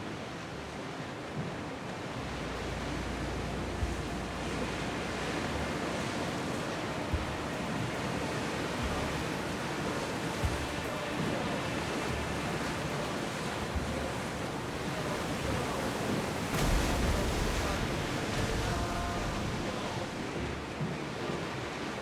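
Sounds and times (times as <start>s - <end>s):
sea waves washing: 0.0s - 22.0s.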